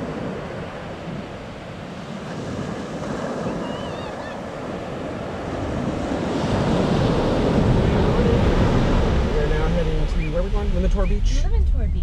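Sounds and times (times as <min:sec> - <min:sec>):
ocean surf on sandy beach: 0:00.0 - 0:11.7
wind buffeting microphone: 0:00.0 - 0:12.0.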